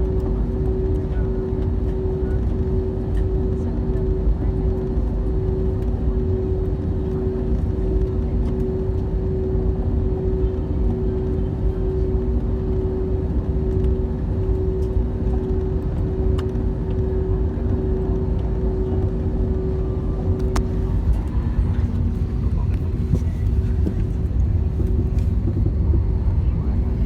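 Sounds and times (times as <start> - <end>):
airliner rumble: 0.0 - 27.0.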